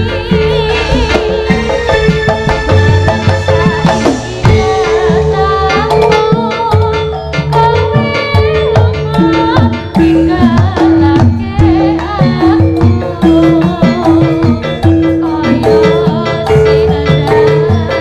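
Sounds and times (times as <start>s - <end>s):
hand drumming: 0.0s - 18.0s
tuned metal percussion pattern: 0.0s - 18.0s
wavering melody line: 0.0s - 18.0s.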